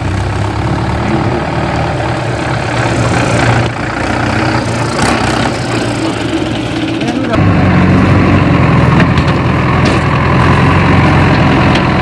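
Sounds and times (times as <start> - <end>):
tractor diesel engines running: 0.0 - 12.0.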